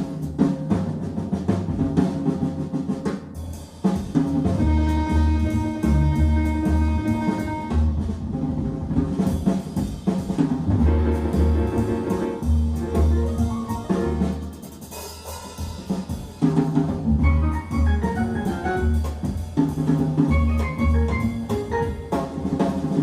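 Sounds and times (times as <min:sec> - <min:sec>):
drum-heavy music on loudspeakers: 0:00.0 - 0:23.0.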